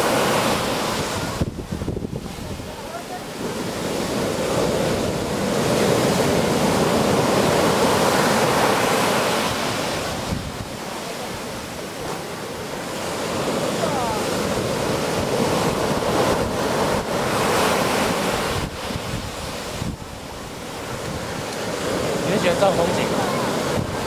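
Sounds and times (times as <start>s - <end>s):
surf breaking on a beach: 0.0s - 24.0s.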